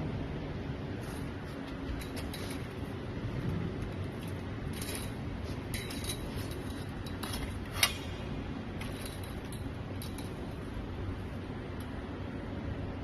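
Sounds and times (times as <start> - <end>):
wire bending machine humming: 0.0 - 13.0.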